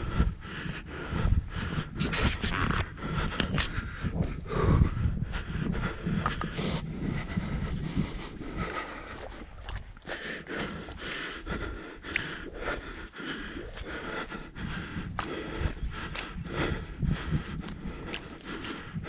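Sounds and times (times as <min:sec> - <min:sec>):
footsteps on a trail: 0:00.0 - 0:19.0
person breathing hard: 0:00.0 - 0:19.0.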